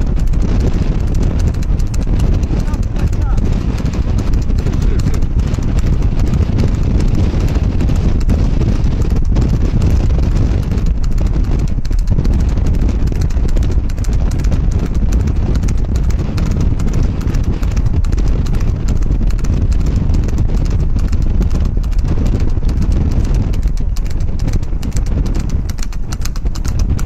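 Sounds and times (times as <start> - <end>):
horse hoofbeats on asphalt: 0.0 - 27.0
steady low rumble: 0.0 - 27.0.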